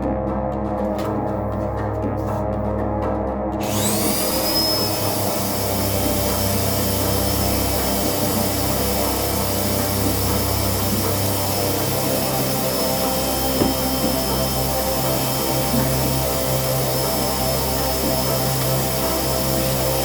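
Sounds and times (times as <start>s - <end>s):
vacuum cleaner motor whine: 3.6s - 20.0s.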